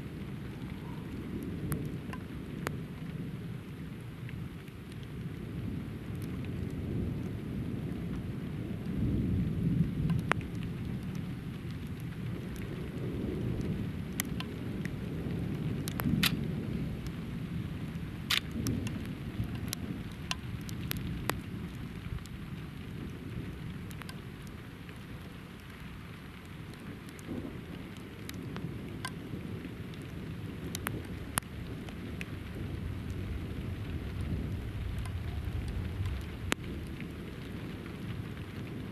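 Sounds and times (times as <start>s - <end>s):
thunder rumbling: 0.0s - 4.1s, 5.1s - 38.9s
raindrops ticking close by: 0.0s - 38.9s
steady rain: 0.0s - 38.9s.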